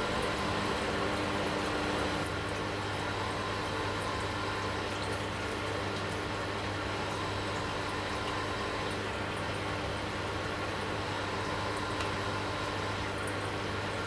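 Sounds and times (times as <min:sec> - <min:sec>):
aquarium pump humming: 0:00.0 - 0:14.0
water noise: 0:00.0 - 0:14.0.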